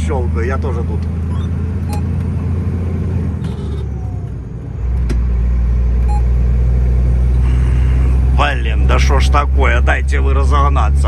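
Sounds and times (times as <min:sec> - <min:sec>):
truck diesel engine: 0:00.0 - 0:11.0.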